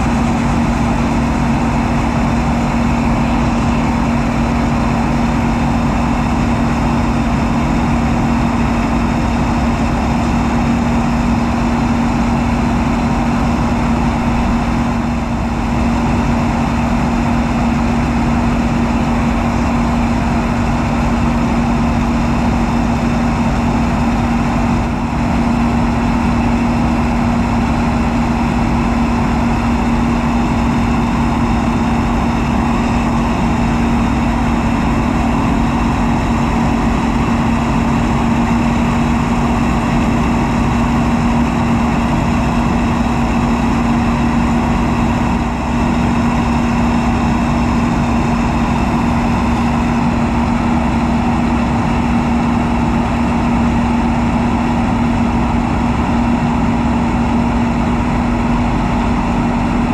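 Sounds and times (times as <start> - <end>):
tractor engine drone: 0.0 - 59.9.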